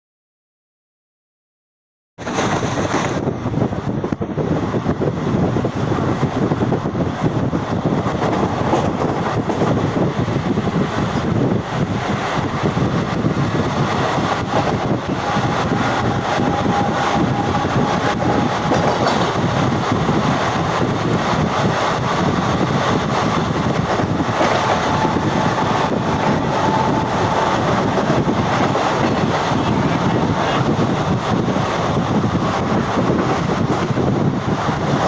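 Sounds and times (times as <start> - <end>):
trains rumbling on tracks: 2.2 - 35.0
wind: 2.2 - 35.0.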